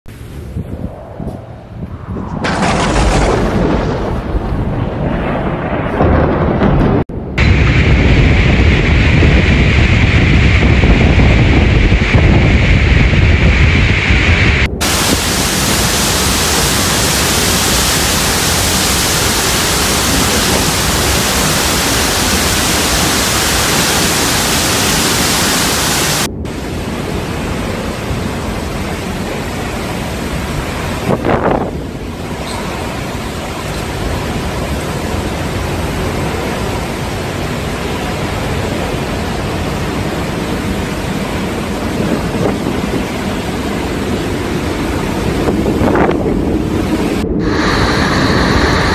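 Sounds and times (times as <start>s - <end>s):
wind on microphone: 0.1s - 48.9s
torrential rain hissing: 7.6s - 48.9s.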